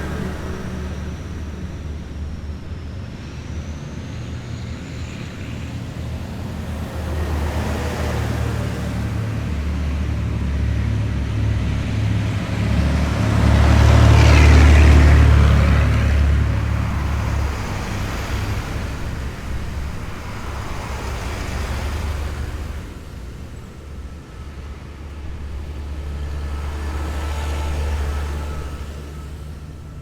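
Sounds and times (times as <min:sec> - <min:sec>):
heavy vehicles driving past: 0:00.0 - 0:30.0.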